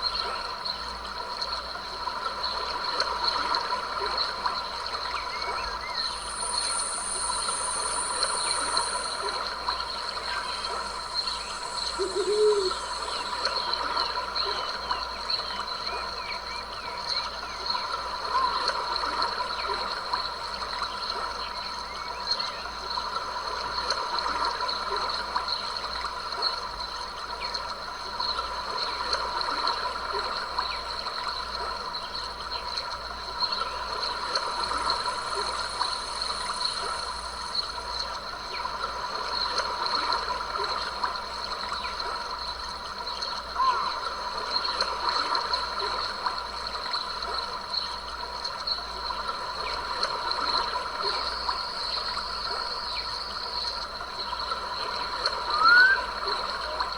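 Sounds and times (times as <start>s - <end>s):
chorus of night insects: 0.0s - 56.9s
stream trickling and gurgling: 0.0s - 56.9s.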